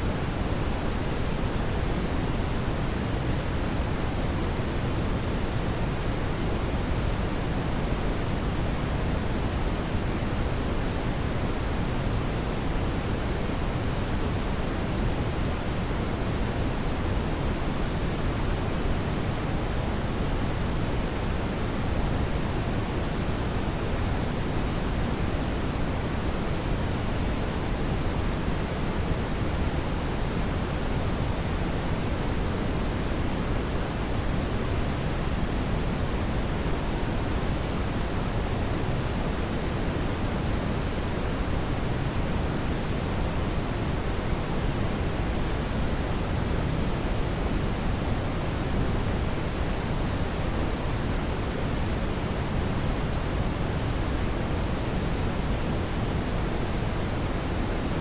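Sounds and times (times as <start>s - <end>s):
deep steady brown noise hiss: 0.0s - 58.0s.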